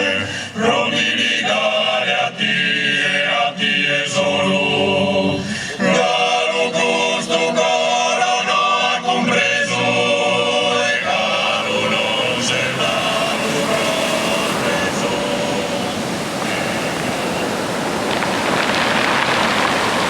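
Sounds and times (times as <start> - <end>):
choir singing unaccompanied: 0.0 - 18.5.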